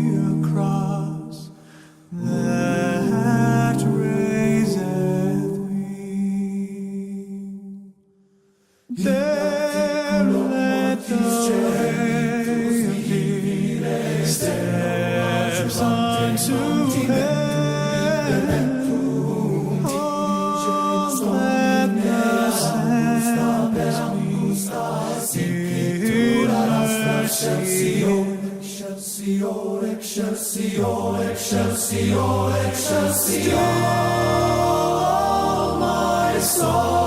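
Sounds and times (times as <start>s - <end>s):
choir singing a cappella: 0.0s - 7.1s, 8.9s - 37.0s.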